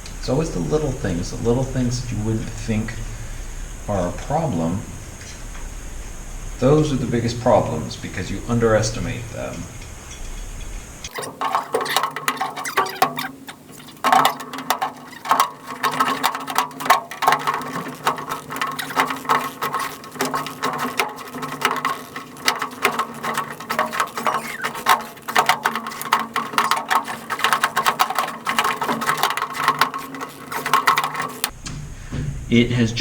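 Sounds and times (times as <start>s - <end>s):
steady low hum: 0.0s - 11.2s, 15.5s - 33.0s
hand tools and metal parts clattering: 0.0s - 33.0s.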